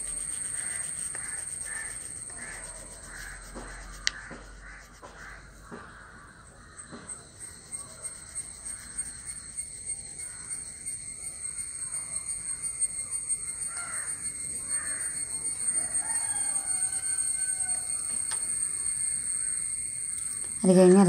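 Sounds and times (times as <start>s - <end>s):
steady high-pitched whine: 0.0s - 21.0s.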